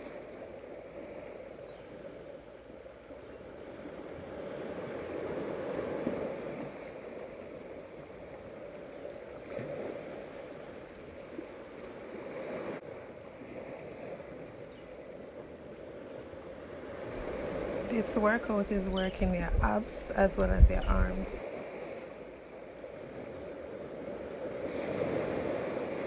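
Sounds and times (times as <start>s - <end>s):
sea waves washing: 0.0s - 26.0s
wind: 0.0s - 26.0s.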